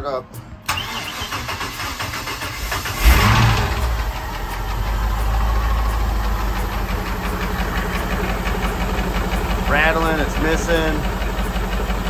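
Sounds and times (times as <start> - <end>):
boat engine cranking and idling: 0.6 - 12.0
engine rattle: 0.7 - 12.0.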